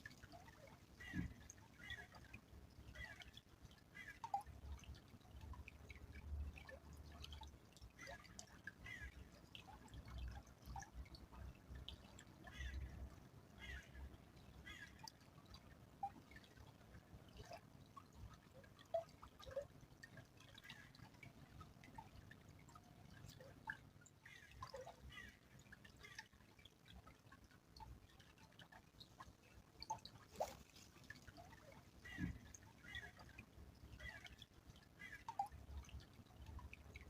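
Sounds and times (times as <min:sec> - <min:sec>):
faint stream trickling: 0:00.0 - 0:37.0
water drips: 0:00.0 - 0:37.0.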